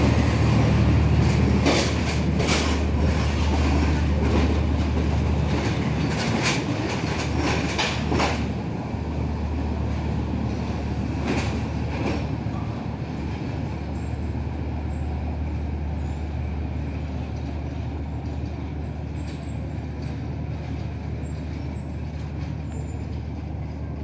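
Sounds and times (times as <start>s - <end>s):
train diesel engine droning: 0.0s - 24.0s.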